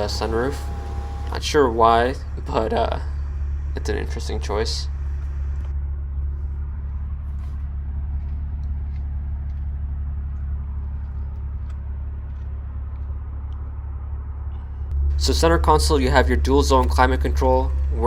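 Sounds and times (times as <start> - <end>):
car engine hum from inside: 0.0 - 18.0.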